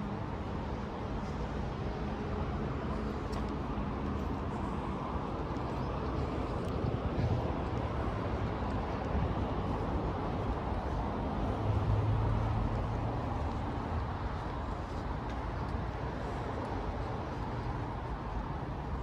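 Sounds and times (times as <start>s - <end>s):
distant city traffic rumble: 0.0s - 19.0s.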